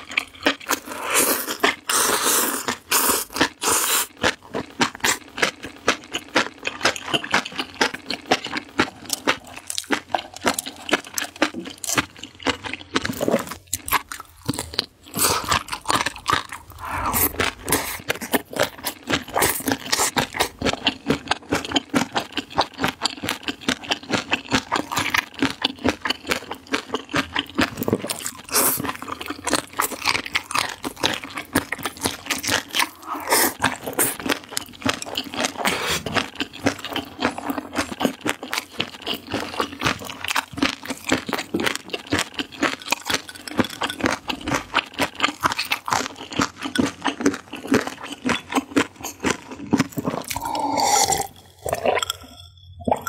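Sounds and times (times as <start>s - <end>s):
wet crunchy chewing: 0.0s - 53.0s.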